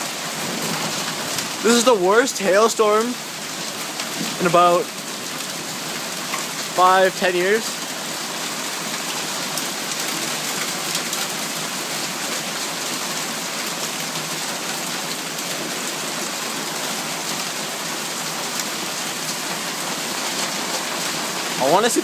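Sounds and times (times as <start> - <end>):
rain and hail pelting down: 0.0 - 22.0.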